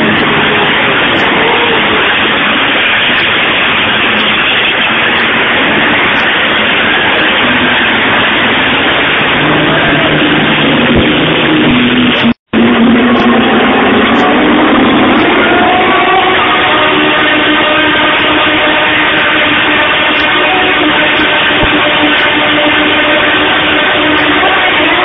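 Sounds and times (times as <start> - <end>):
racing engines revving: 0.0 - 25.0.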